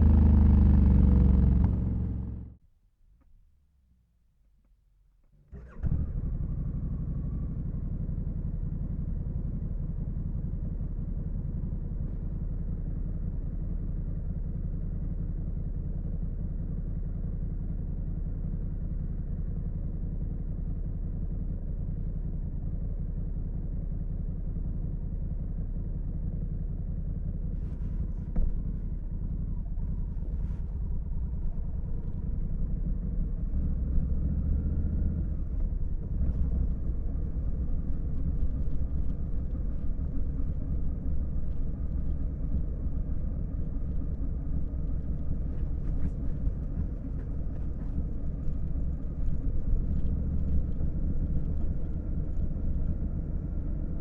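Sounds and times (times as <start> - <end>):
motorcycle engine starting and idling: 0.0 - 2.6, 5.3 - 54.0.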